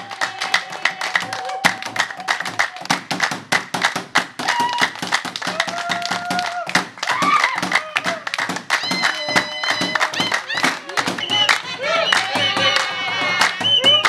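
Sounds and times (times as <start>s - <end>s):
voices calling out held notes: 0.0s - 3.0s, 4.4s - 14.0s
people clapping in rhythm: 0.0s - 14.0s.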